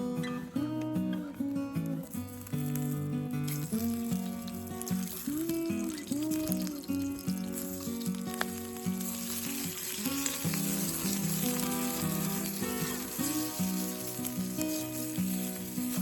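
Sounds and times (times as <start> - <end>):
food sizzling in a pan: 1.3 - 16.0.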